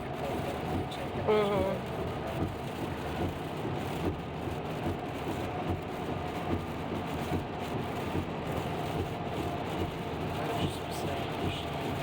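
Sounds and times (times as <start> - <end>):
rain: 0.0 - 12.0
road noise inside moving car: 0.0 - 12.0.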